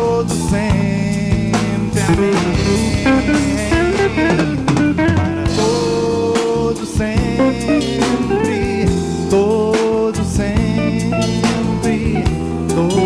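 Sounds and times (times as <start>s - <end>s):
band playing drums and guitar: 0.0s - 13.0s.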